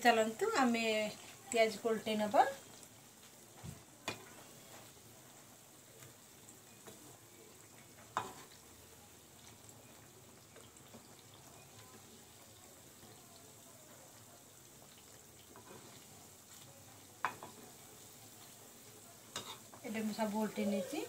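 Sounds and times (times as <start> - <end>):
fritters sizzling in oil: 0.0 - 21.0.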